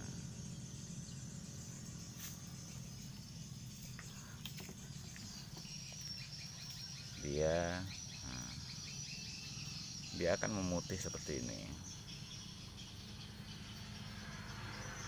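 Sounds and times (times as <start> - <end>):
low steady hum: 0.0 - 13.2
crickets chirring: 0.0 - 15.0.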